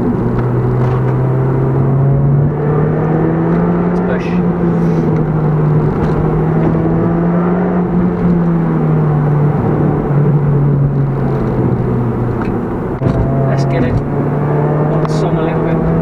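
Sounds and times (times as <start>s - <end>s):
car engine running hard: 0.0s - 16.0s
road noise: 0.0s - 16.0s.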